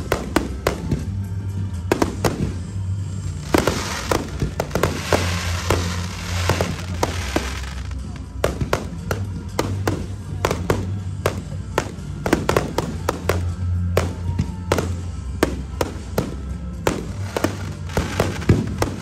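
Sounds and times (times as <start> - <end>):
music with deep bass: 0.0 - 19.0
firework shells bursting: 2.0 - 19.0.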